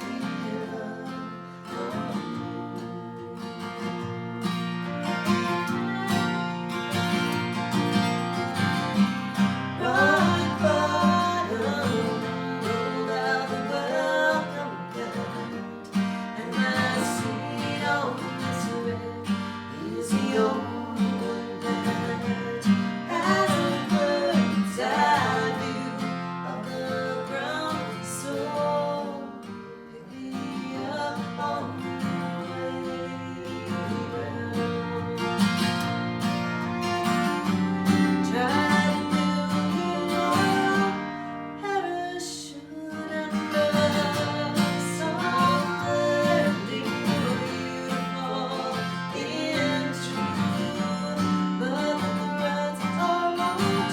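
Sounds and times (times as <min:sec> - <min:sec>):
strummed acoustic guitar: 0:00.0 - 0:53.9.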